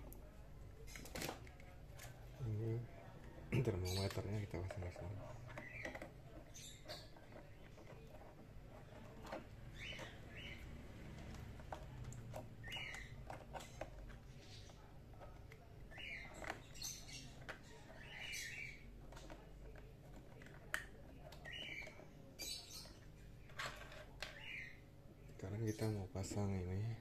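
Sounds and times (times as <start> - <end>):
small birds chirping: 0.3 - 27.0.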